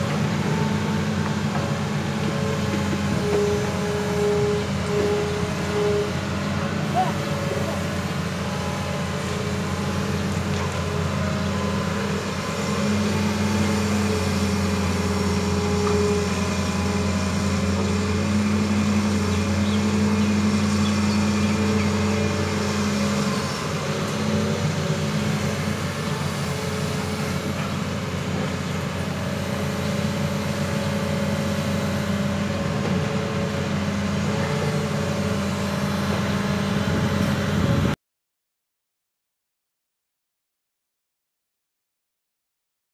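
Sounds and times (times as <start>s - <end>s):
excavator diesel engine droning: 0.0s - 38.0s.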